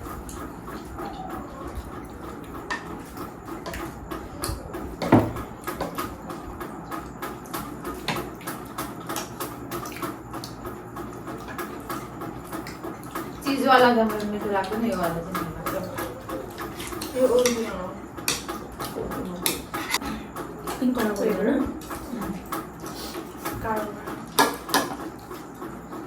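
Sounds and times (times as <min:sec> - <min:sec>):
utensils clicking against bowl: 0:00.3 - 0:25.3.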